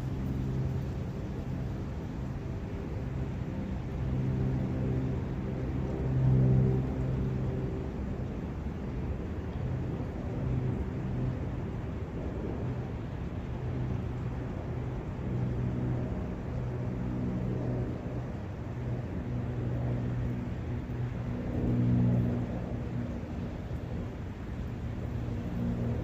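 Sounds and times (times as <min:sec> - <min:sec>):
low outdoor rumble: 0:00.0 - 0:26.0
underlying hum: 0:00.0 - 0:26.0.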